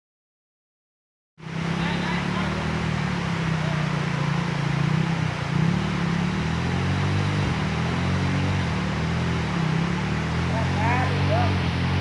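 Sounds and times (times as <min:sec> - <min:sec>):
rushing floodwater: 0:01.4 - 0:12.0
vehicle engine running: 0:01.4 - 0:12.0.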